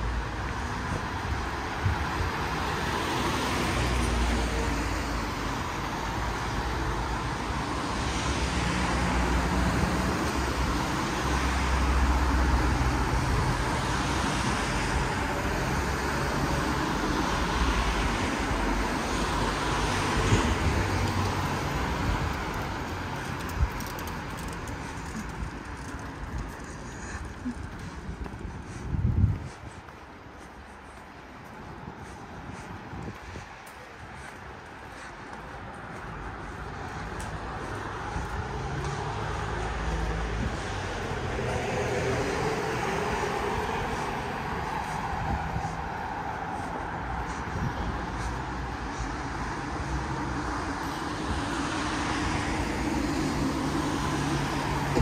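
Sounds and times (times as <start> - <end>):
cars passing on wet street: 0.0 - 55.0.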